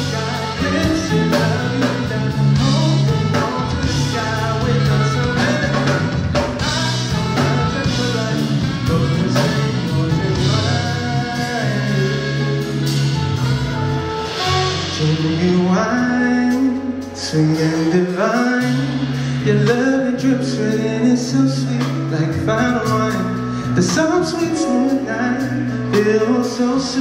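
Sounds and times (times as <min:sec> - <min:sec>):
live band playing: 0:00.0 - 0:27.0
person singing: 0:00.0 - 0:27.0.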